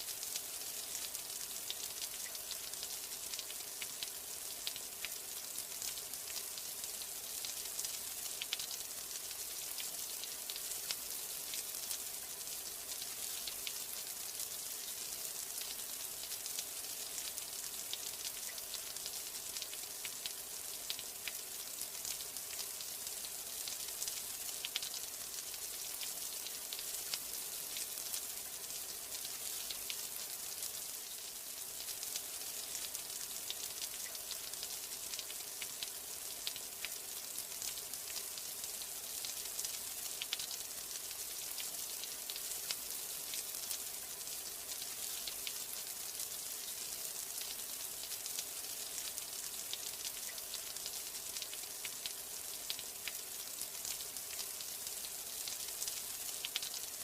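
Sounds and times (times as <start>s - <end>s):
rain hissing with ticking drops: 0.0s - 57.0s.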